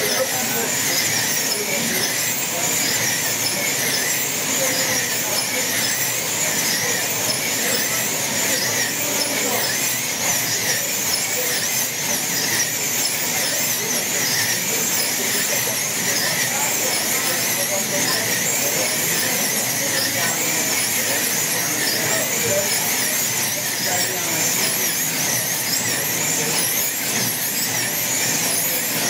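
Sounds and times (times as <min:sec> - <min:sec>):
slot car motors whining: 0:00.0 - 0:29.0.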